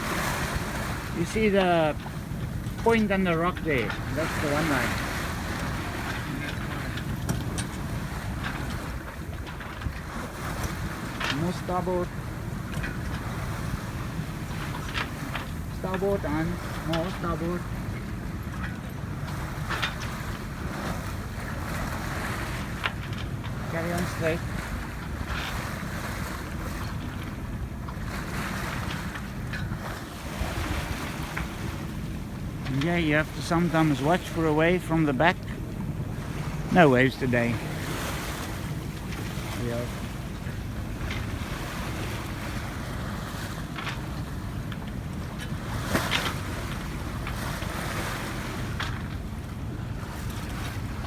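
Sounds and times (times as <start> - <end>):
water rushing along a hull: 0.0 - 51.0
wind buffeting microphone: 0.0 - 51.0.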